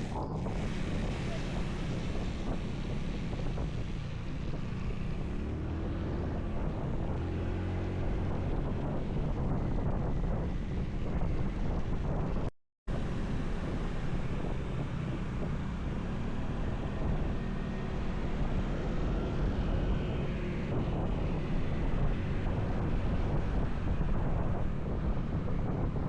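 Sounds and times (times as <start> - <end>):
motorcycle engine rumble: 0.0 - 26.0
road noise: 0.0 - 26.0
wind buffeting microphone: 0.0 - 26.0.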